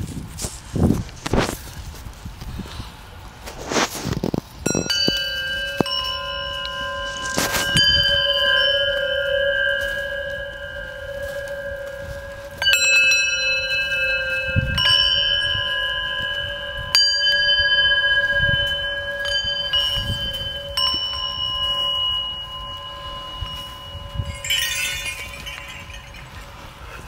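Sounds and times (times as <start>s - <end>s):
hanging metal bells ringing: 4.6s - 27.0s.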